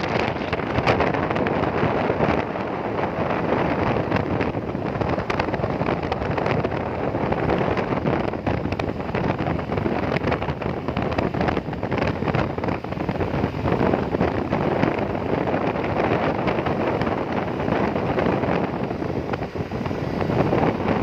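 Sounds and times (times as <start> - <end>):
motorcycle running: 0.0 - 21.0
road noise: 0.0 - 21.0
wind buffeting microphone: 0.0 - 21.0.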